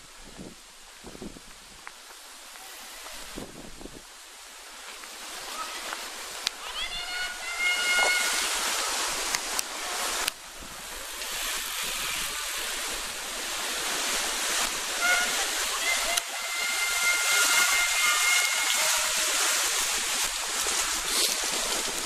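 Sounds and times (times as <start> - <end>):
wind gusting through trees: 0.0 - 22.0.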